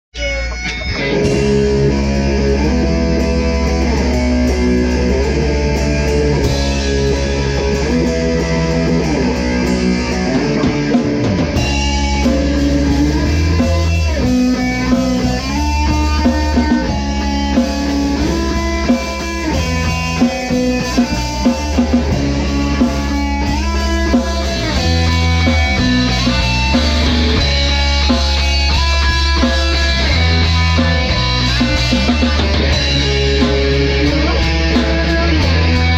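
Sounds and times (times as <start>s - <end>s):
drums: 0.1s - 35.9s
rock guitar: 0.1s - 35.9s
steady bass: 0.2s - 35.9s.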